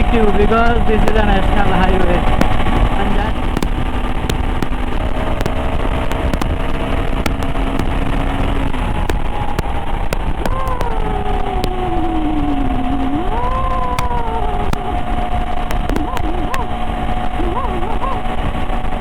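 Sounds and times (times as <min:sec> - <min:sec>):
motorcycle engine at speed: 0:00.0 - 0:19.0
wind rush: 0:00.0 - 0:19.0.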